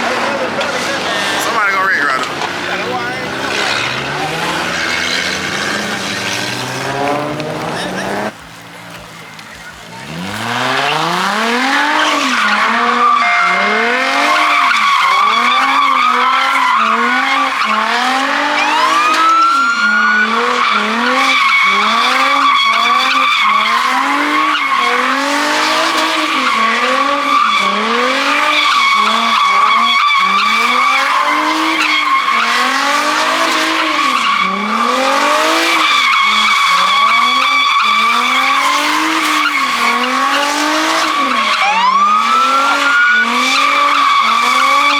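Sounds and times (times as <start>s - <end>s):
car engine revving: 0.0s - 44.9s
tyres squealing: 0.0s - 44.9s.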